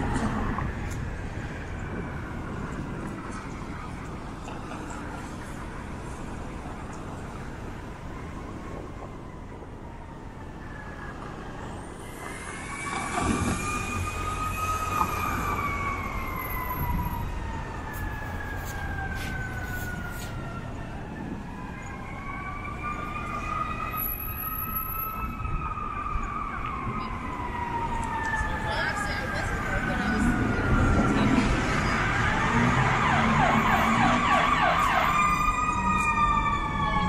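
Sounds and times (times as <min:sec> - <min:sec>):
emergency siren wailing: 0:00.0 - 0:37.0
street traffic: 0:00.0 - 0:37.0.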